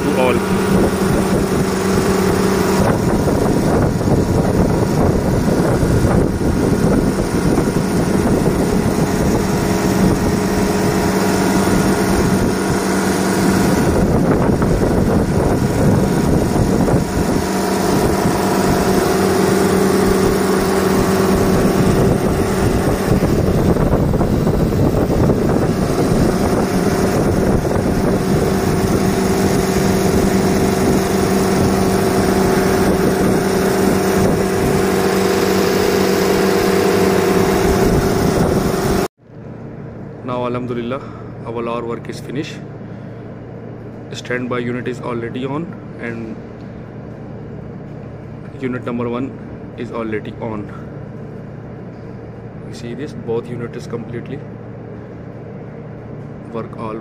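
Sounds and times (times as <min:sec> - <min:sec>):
compressor humming: 0:00.0 - 0:57.0
condenser fans rushing air: 0:00.0 - 0:57.0.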